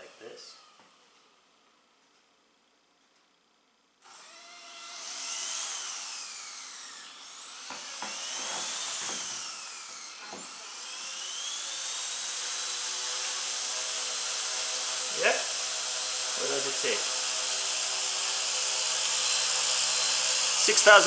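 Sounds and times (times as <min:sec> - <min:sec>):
model helicopter motor whine: 0:04.0 - 0:21.0.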